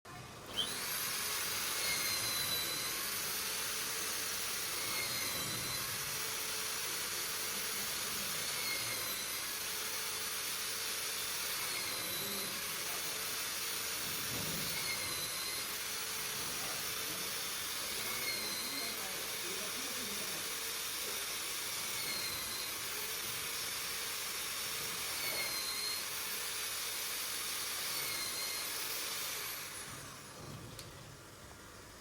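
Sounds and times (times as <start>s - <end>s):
jig saw machine cutting: 0.4s - 31.0s.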